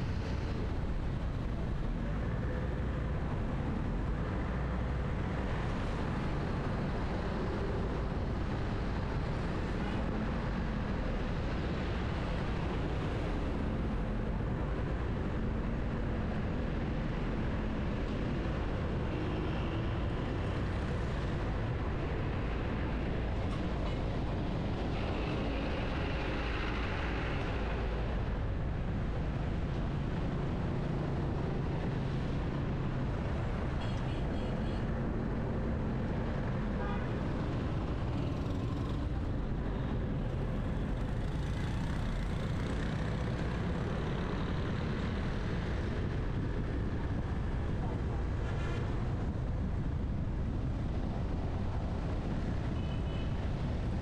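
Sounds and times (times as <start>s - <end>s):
traffic rumble and road noise: 0.0s - 54.0s.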